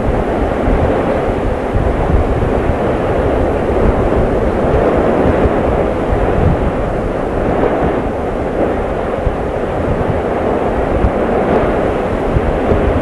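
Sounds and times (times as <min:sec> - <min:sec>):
volcanic eruption rumbling: 0:00.0 - 0:13.0.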